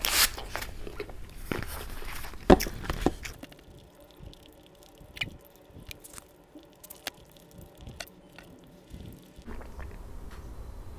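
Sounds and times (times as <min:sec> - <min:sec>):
quiet chewing: 0:00.3 - 0:10.0.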